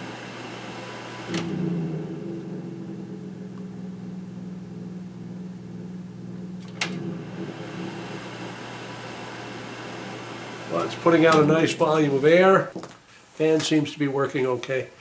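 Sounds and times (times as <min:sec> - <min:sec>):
humidifier fan humming: 0:00.0 - 0:15.0.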